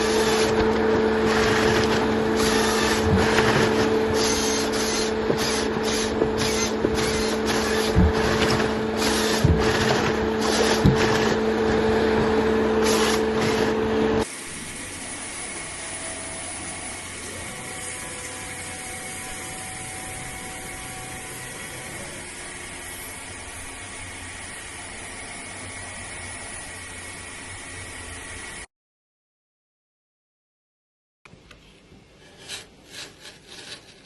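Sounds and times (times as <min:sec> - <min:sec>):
machinery humming loudly: 0:00.0 - 0:28.7.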